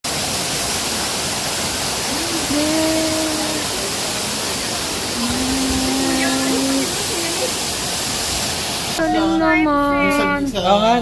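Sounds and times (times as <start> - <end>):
rush of falling water: 0.0 - 10.6.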